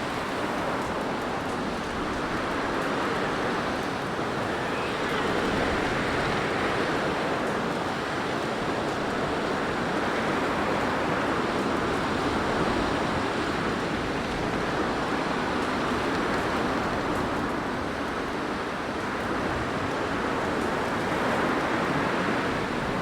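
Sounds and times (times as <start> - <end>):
blizzard wind blowing: 0.0 - 23.0.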